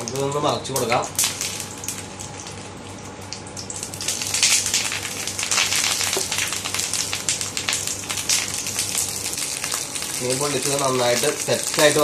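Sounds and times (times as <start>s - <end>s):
fish sizzling in hot oil: 0.1s - 12.0s.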